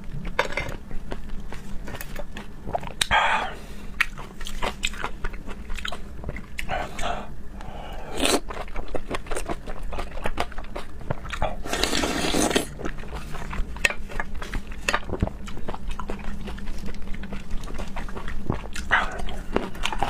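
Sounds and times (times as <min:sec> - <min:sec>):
person chewing with wet clicks: 0:01.0 - 0:03.2, 0:03.9 - 0:20.0.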